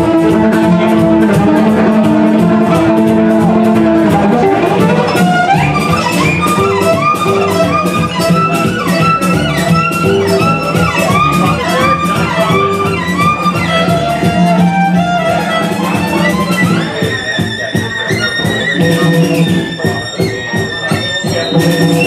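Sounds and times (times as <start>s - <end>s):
driving rhythm: 0.0s - 22.0s
violin playing fast melody: 0.0s - 22.0s.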